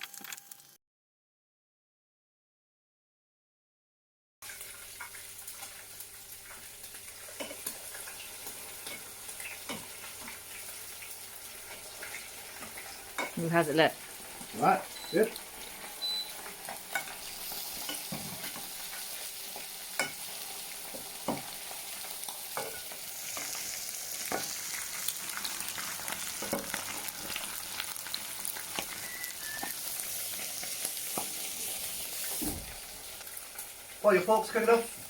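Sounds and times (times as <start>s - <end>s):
meat deep frying in oil: 0.0s - 0.8s, 4.4s - 35.0s.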